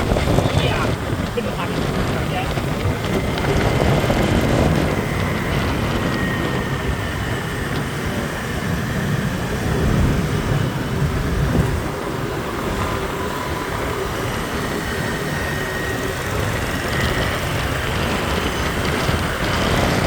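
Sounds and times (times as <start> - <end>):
street traffic rumble: 0.0 - 20.0
wind: 0.0 - 20.0.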